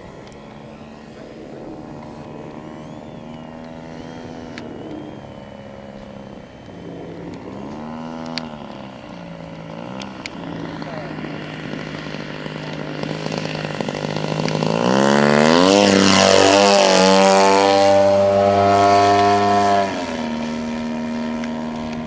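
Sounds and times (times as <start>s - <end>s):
model airplane engine buzzing: 0.0s - 22.0s.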